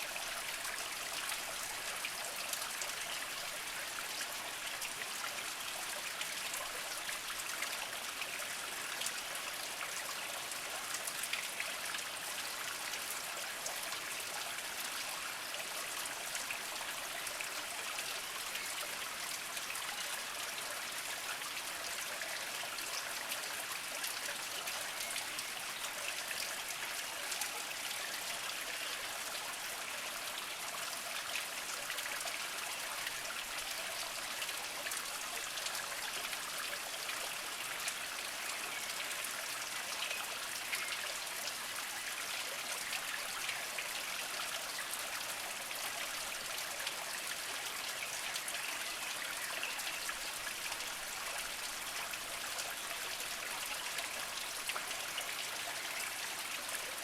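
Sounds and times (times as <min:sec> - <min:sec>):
spring water trickling over rocks: 0:00.0 - 0:57.0.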